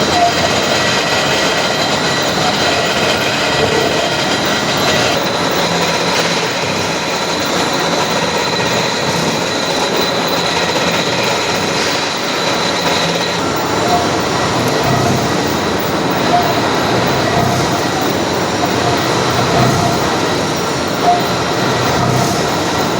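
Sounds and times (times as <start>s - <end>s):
boring machine cutting metal: 0.0s - 22.9s
thin high whine: 0.0s - 22.9s.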